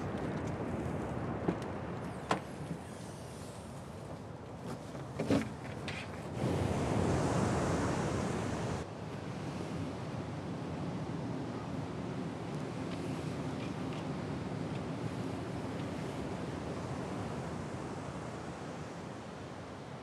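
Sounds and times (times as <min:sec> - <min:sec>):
outdoor background rush: 0:00.0 - 0:20.0.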